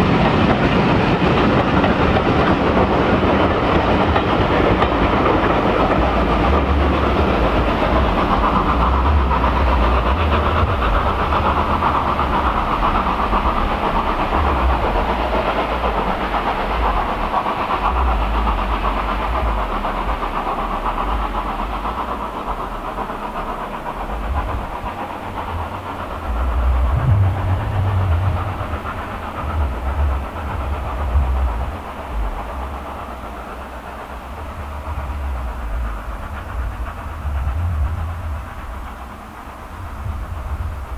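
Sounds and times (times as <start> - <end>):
steam train rumbling on track: 0.0 - 40.9.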